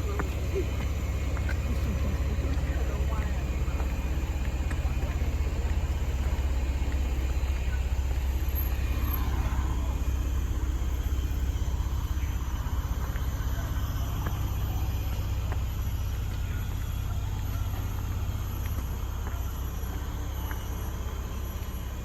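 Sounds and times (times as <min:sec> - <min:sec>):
faint voices: 0:00.0 - 0:22.0
low outdoor rumble: 0:00.0 - 0:22.0.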